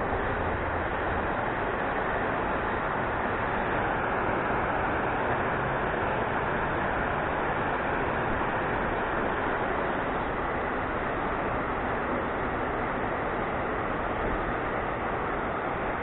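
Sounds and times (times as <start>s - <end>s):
water rushing at a dam: 0.0s - 16.0s.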